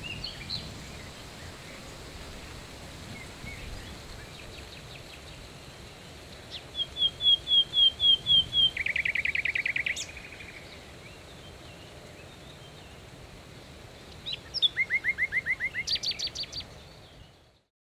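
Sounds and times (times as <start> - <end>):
songbird singing: 0.0 - 17.7.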